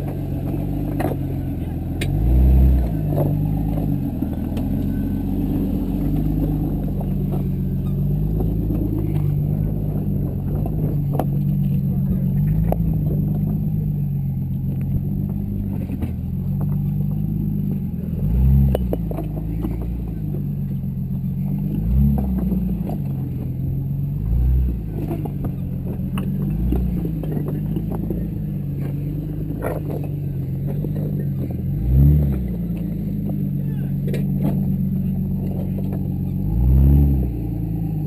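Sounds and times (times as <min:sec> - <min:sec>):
short engine revs: 0:00.0 - 0:13.9, 0:17.0 - 0:20.6, 0:21.3 - 0:38.0
engine running low and slow: 0:00.0 - 0:38.0.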